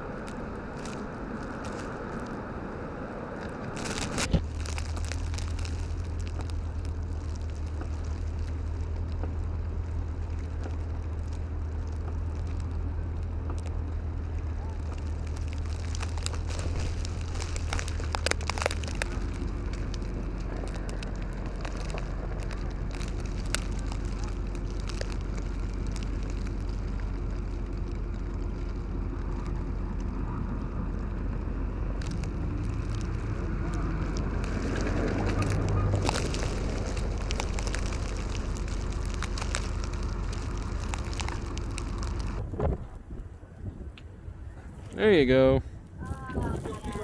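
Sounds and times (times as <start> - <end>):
snow ticking and crackling: 0.0 - 47.0
wind rumbling on microphone: 0.0 - 47.0.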